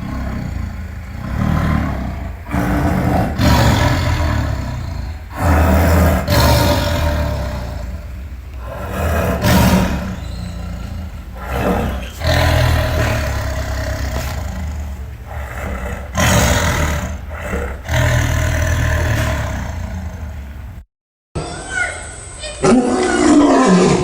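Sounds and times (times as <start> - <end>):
deep dinosaur roars and growls: 0.0 - 20.8, 22.7 - 24.0.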